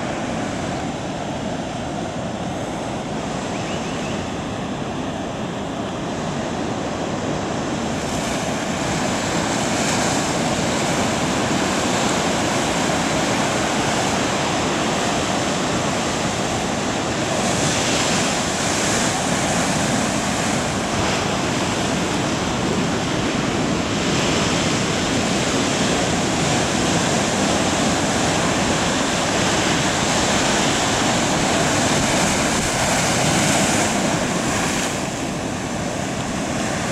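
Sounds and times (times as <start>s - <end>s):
ocean waves breaking: 0.0s - 36.9s.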